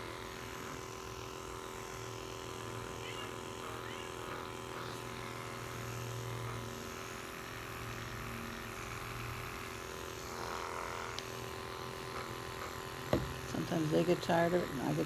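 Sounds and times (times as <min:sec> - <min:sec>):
electric clippers buzzing: 0:00.0 - 0:15.0.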